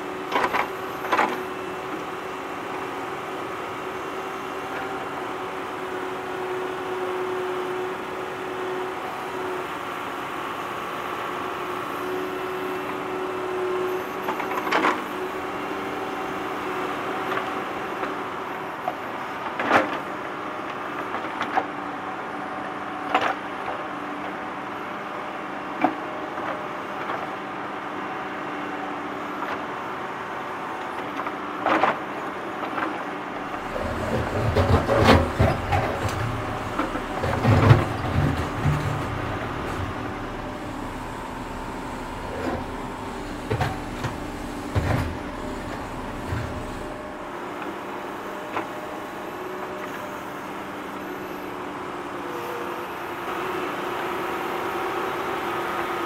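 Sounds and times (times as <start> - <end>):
excavator engine drone: 0.0 - 56.0.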